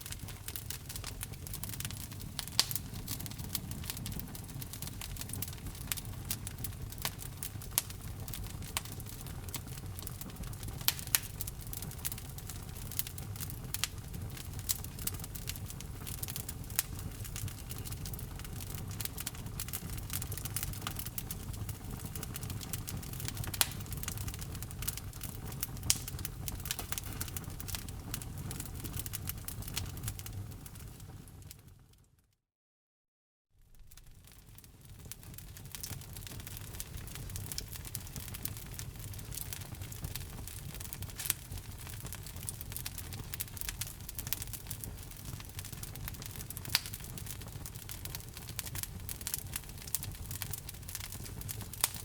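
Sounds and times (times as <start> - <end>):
wood fire crackling: 0.0 - 31.7, 33.7 - 52.0.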